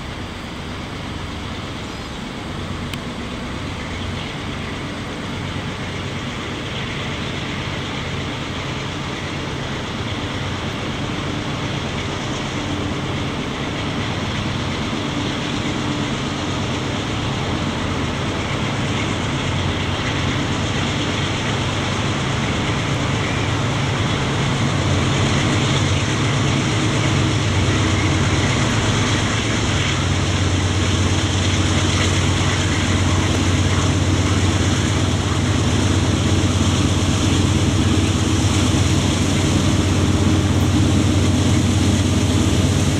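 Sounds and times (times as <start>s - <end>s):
diesel locomotive engines droning: 0.0s - 42.9s.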